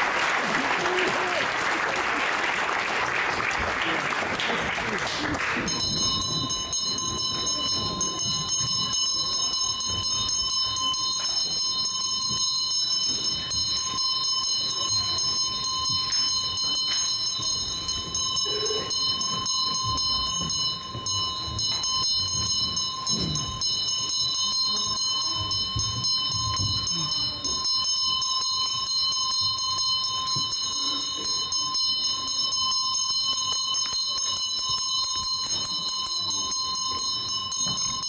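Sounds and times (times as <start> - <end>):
bell ringing rapidly: 0.0 - 38.0.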